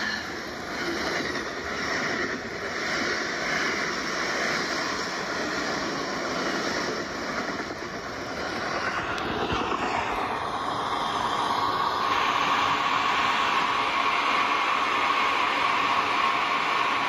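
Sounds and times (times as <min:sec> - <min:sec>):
toy train motor whine: 0:00.0 - 0:17.0
wheels rattling on track: 0:00.0 - 0:17.0.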